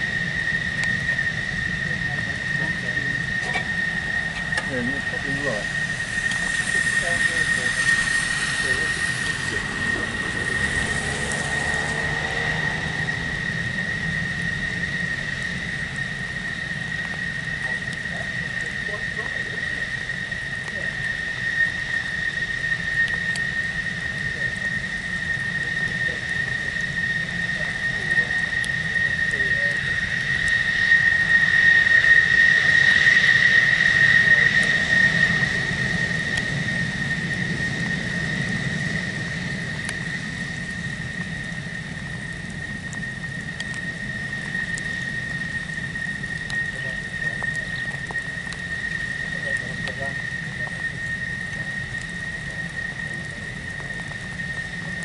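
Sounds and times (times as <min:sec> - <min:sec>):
jet engines whining at idle: 0:00.0 - 0:55.0.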